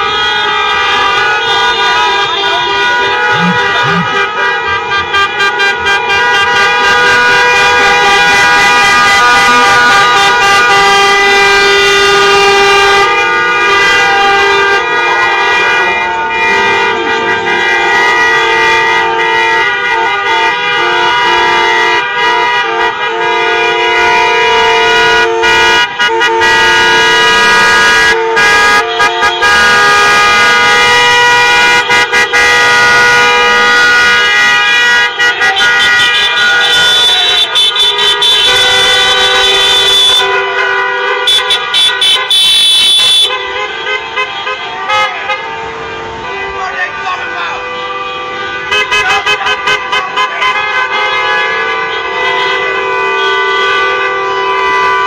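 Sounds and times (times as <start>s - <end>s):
car horns honking: 0.0s - 55.0s.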